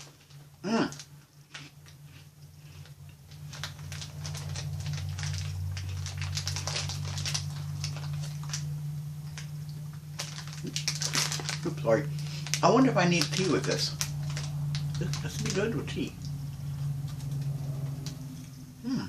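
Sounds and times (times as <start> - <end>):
chewing crunchy biscuit: 0.0 - 19.0
steady low hum: 0.0 - 19.0.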